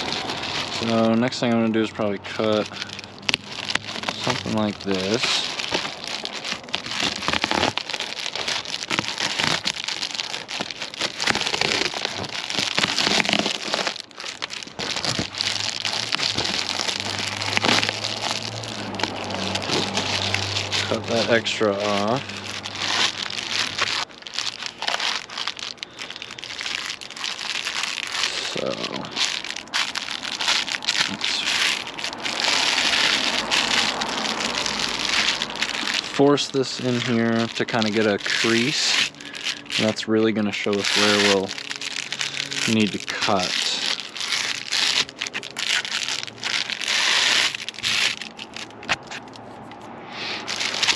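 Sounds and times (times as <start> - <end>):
foil insulation crinkling: 0.0 - 50.9.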